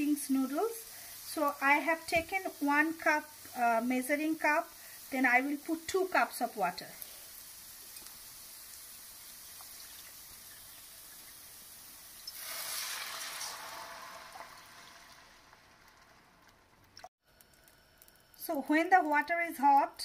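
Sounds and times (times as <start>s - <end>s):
water hissing in hot pan: 0.0s - 16.6s
vegetables sizzling in a pan: 0.0s - 16.9s.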